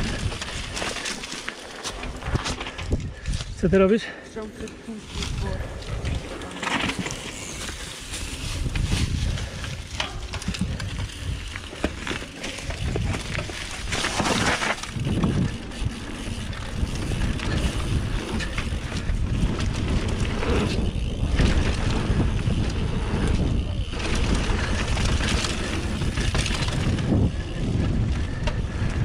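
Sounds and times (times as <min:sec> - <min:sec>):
wind buffeting microphone: 0:00.0 - 0:01.1, 0:02.0 - 0:03.9, 0:05.1 - 0:29.0
tyres rolling over dirt and leaves: 0:00.0 - 0:03.0, 0:04.9 - 0:28.4
bike knocks and rattles: 0:05.2 - 0:29.0.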